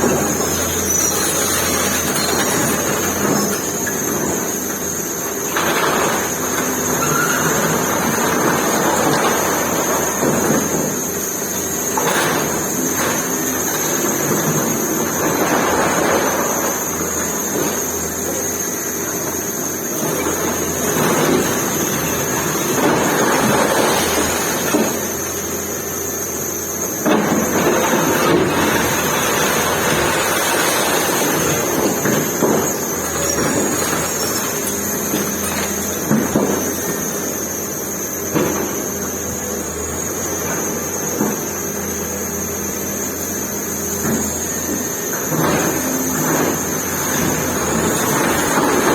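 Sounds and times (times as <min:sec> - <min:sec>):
excavator engine under load: 0:00.0 - 0:48.9.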